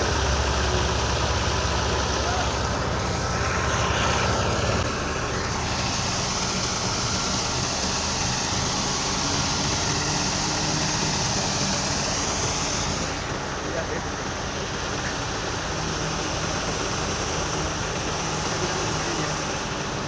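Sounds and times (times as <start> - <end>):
diesel engine drone: 0.0 - 20.0
threshing machine rushing: 0.0 - 20.0.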